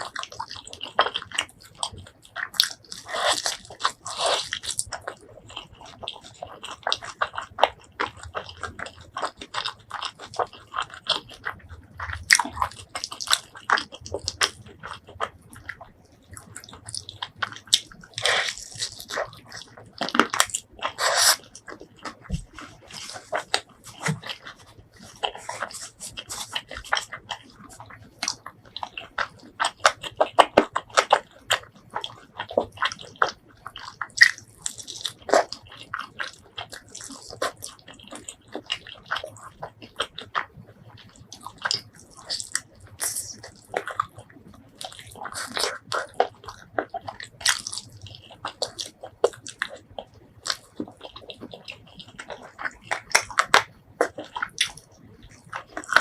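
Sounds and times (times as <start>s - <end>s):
person chewing and biting food: 0.0s - 56.0s.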